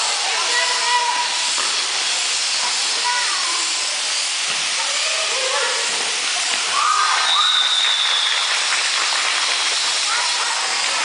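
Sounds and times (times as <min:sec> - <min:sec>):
ambient hiss: 0:00.0 - 0:11.0
thin high tone: 0:00.0 - 0:11.0.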